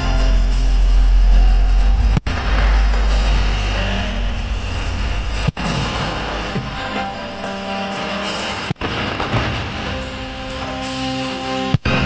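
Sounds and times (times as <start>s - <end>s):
fireworks booming and crackling: 2.0s - 12.0s.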